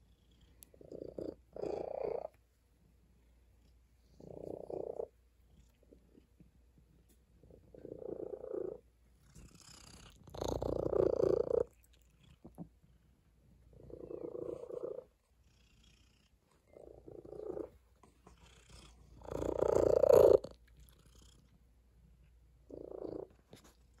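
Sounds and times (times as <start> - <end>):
cat purring: 0.0 - 24.0.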